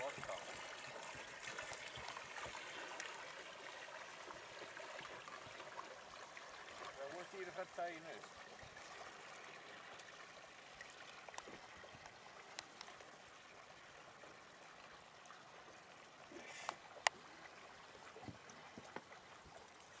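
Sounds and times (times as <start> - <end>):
water trickling and lapping: 0.0 - 20.0.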